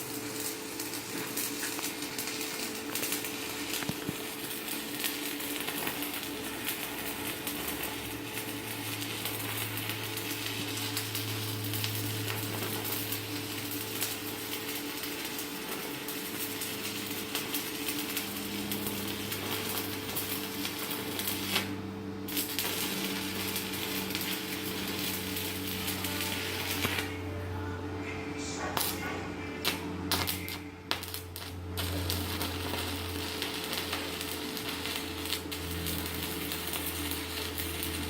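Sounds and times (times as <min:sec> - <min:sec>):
welding arc crackling: 0:00.0 - 0:27.8, 0:28.5 - 0:38.0
welder low hum: 0:00.0 - 0:38.0.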